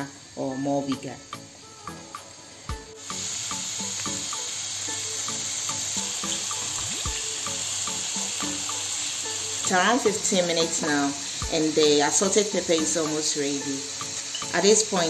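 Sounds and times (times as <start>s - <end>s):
light background music: 0.0s - 15.0s
paste sizzling in frying pan: 1.3s - 15.0s.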